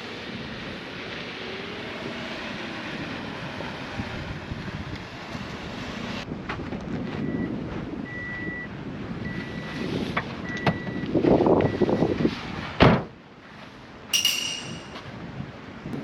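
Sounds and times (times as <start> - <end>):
wind rumbling on microphone: 0.0 - 14.1, 14.8 - 16.0.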